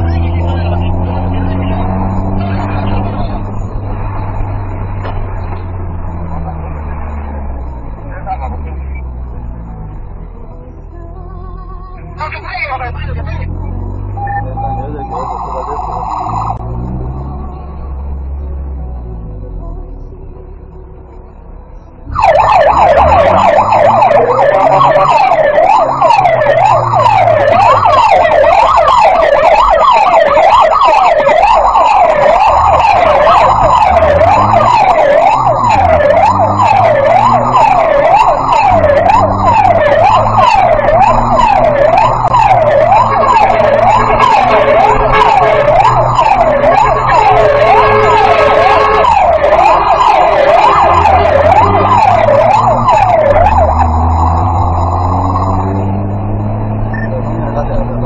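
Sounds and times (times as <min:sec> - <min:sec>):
electronic siren wailing: 0:00.0 - 0:20.2, 0:22.0 - 0:58.0
truck engine drone: 0:00.0 - 0:58.0.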